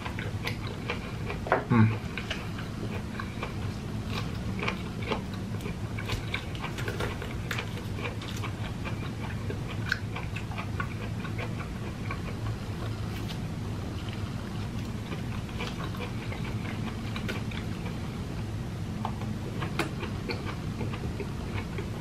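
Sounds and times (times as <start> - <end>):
chewing with wet mouth clicks: 0.0 - 13.3, 14.0 - 18.0, 19.0 - 22.0
steady low hum: 0.0 - 22.0.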